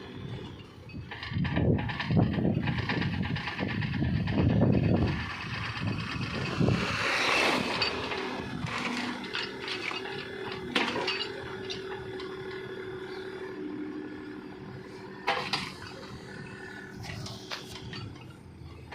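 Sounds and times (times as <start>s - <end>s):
excavator engine humming: 0.0s - 18.9s
sharp metallic clanks: 0.2s - 18.9s.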